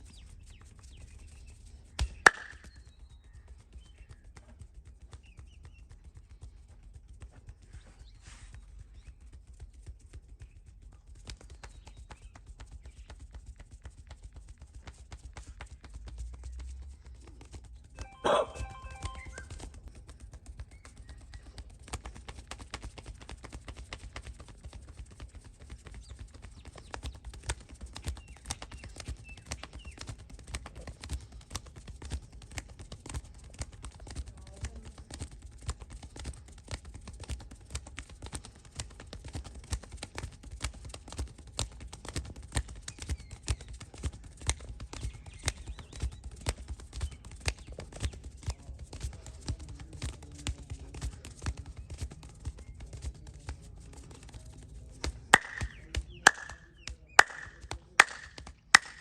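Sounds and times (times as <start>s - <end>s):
hands tapping and slapping body: 0.0s - 59.0s.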